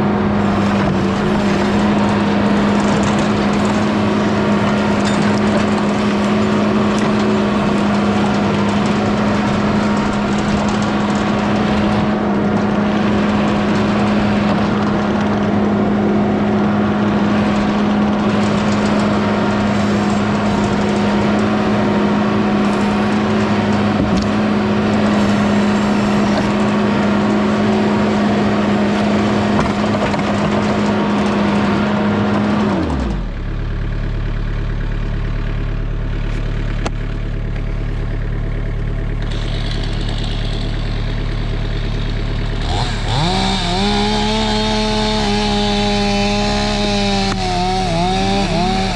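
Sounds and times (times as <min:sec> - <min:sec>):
skid steer engine running: 0:00.0 - 0:48.9.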